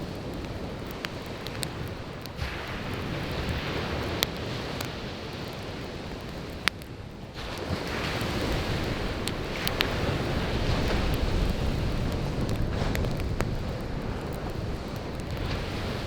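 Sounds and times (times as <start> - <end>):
campfire crackling and popping: 0.0 - 16.0
surf washing on beach: 0.0 - 16.0.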